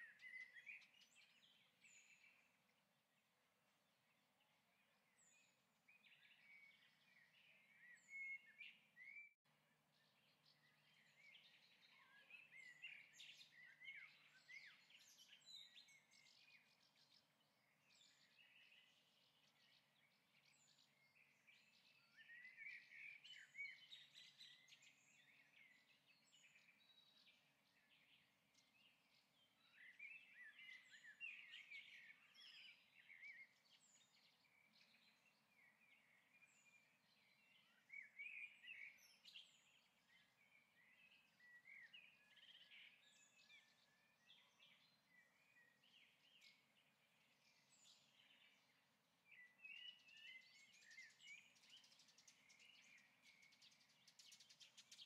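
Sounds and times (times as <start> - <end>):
birds chirping and twittering: 0.0 - 55.0.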